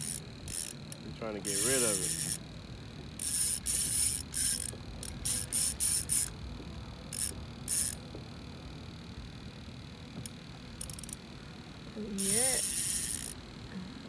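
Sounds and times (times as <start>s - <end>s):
fishing reel drag buzzing: 0.0s - 13.6s.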